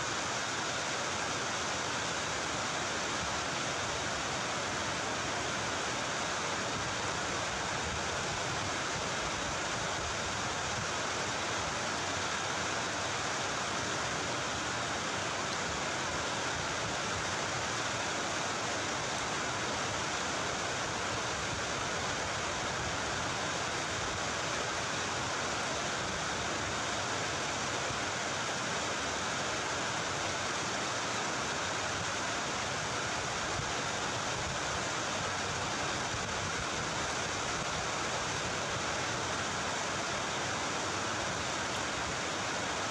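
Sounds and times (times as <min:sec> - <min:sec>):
steady hiss: 0:00.0 - 0:42.9.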